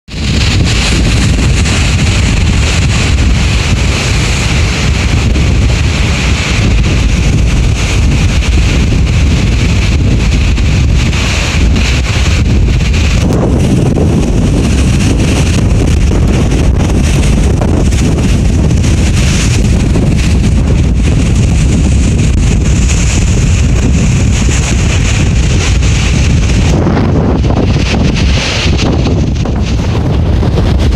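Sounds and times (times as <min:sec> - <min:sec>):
ocean surf: 0:00.1 - 0:30.9
wind buffeting microphone: 0:00.1 - 0:30.9.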